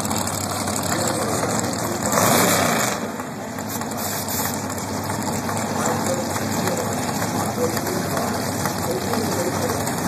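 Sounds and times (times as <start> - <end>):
dragster engine idling: 0.0 - 10.0.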